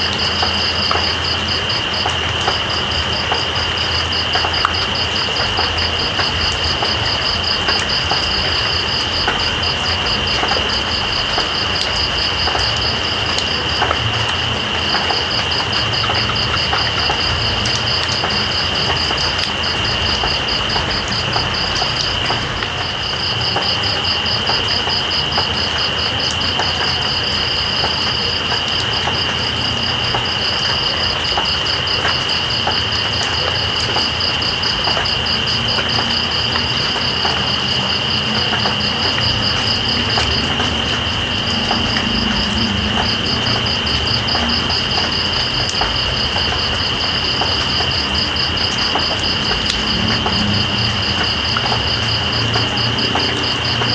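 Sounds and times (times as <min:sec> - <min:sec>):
rain with drips: 0:00.0 - 0:53.9.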